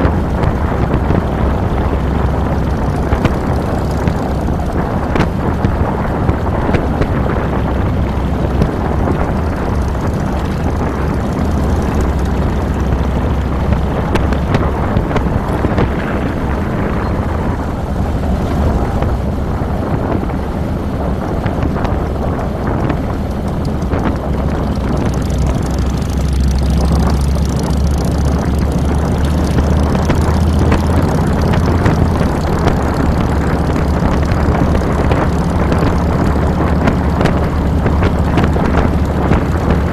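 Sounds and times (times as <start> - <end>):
motorcycle engine running: 0.0 - 39.9
noisy wind rush: 0.0 - 39.9.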